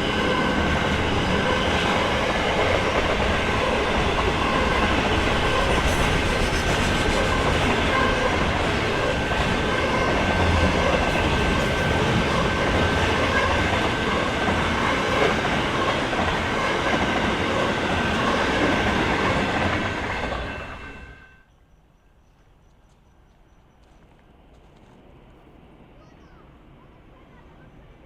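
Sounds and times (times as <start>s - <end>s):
train rolling on rails: 0.0s - 28.0s.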